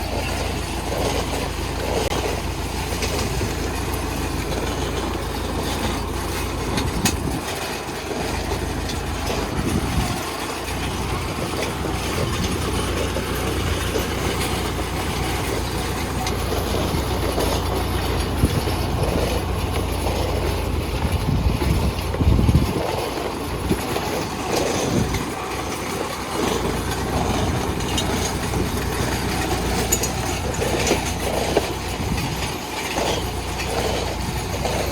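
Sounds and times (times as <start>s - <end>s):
rig rattling and clattering: 0.0s - 34.9s
tractor engine running: 0.0s - 34.9s.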